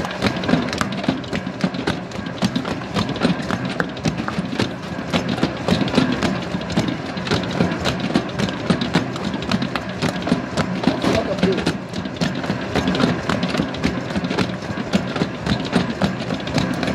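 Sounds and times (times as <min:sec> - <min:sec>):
dough slapping against bowl: 0:00.0 - 0:16.9
stand mixer motor running: 0:00.0 - 0:16.9.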